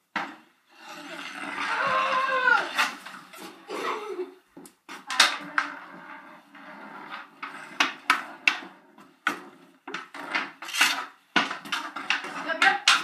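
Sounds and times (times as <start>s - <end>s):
hockey sticks clacking: 0.1s - 3.9s, 4.6s - 13.0s
sticks scraping floor: 0.2s - 3.8s, 4.9s - 13.0s.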